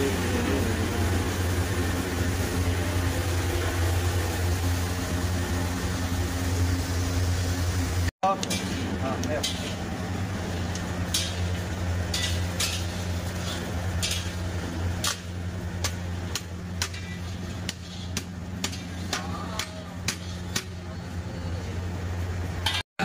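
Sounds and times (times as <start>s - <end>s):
steady low hum: 0.0s - 22.8s.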